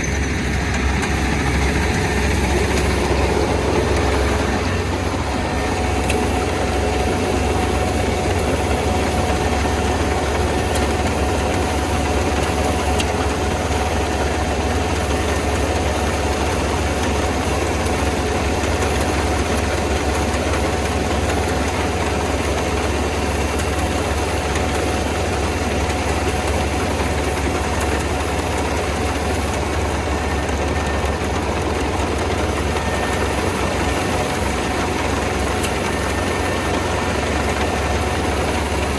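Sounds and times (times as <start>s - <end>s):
diesel engine running: 0.0s - 38.9s
steady engine whine: 0.0s - 38.9s.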